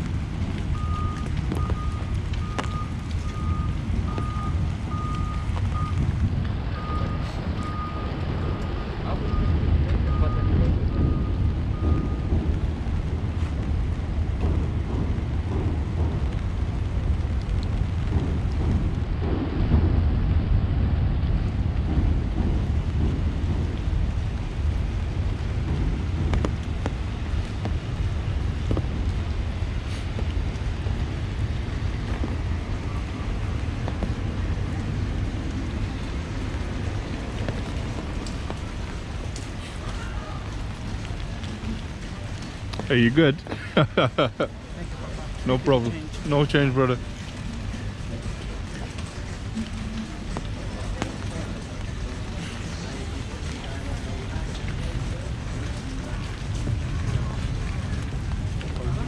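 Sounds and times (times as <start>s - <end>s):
heavy low rumble: 0.0s - 59.0s
steady rain hiss: 0.0s - 59.0s.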